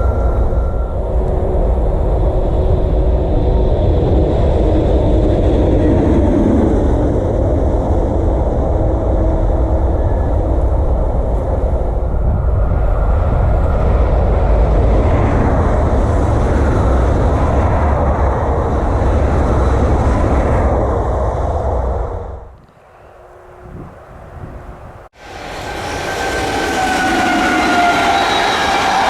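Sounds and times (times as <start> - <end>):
train passing rumble: 0.0 - 29.0.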